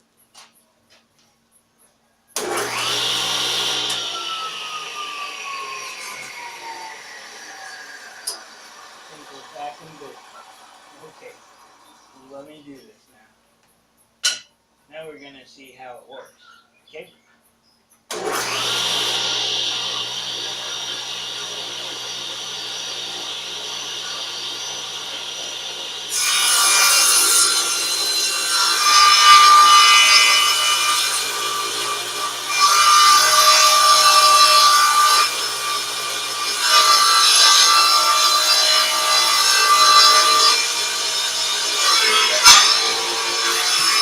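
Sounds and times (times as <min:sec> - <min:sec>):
table saw cutting plywood: 0:02.4 - 0:12.1, 0:18.1 - 0:44.0.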